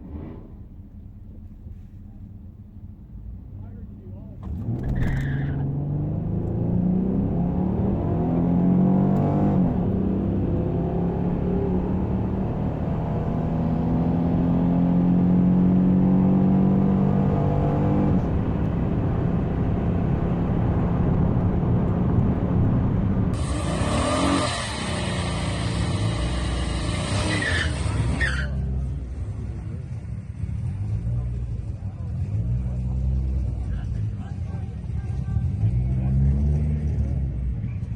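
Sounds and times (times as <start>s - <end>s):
car engine accelerating hard: 0.0s - 37.9s.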